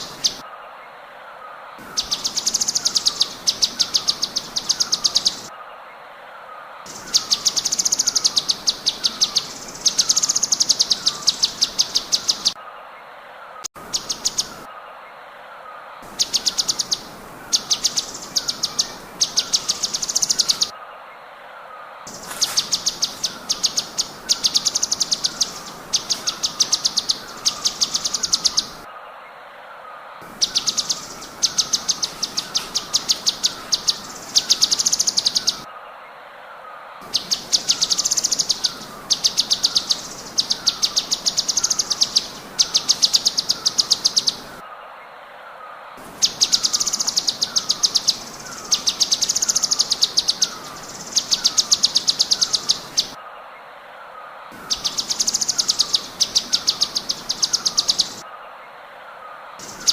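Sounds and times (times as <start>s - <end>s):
bird song bursts of high notes: 0.0s - 21.2s, 22.0s - 36.1s, 36.7s - 44.7s, 45.6s - 53.2s, 54.5s - 59.9s.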